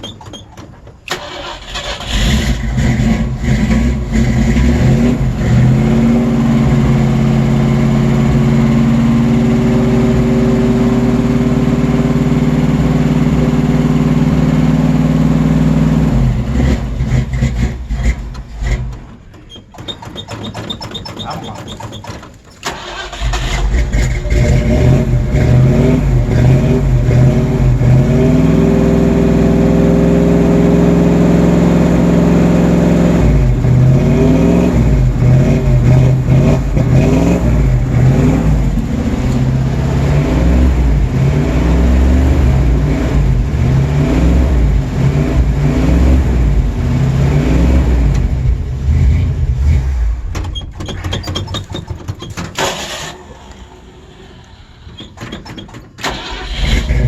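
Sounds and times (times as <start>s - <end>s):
car engine revving: 1.1s - 19.2s, 22.7s - 50.5s, 56.0s - 57.0s.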